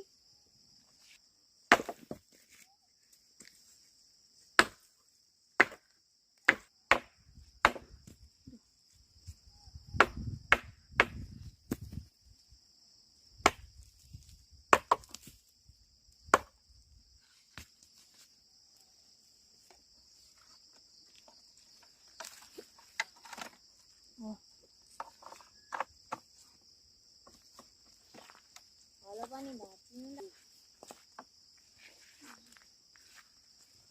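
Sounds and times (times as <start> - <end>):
crickets chirring: 0.0 - 33.9.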